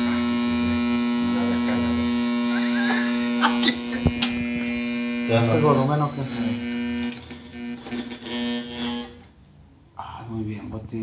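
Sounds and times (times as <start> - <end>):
speaker electrical hum: 0.0 - 11.0.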